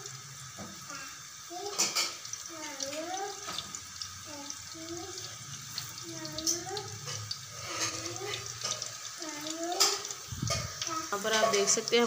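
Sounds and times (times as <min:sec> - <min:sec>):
batter frying in hot oil: 0:00.0 - 0:12.0.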